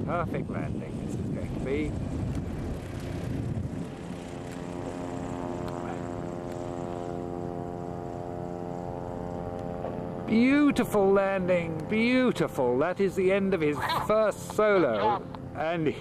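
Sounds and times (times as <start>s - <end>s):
propeller plane engine humming: 0.0s - 16.0s.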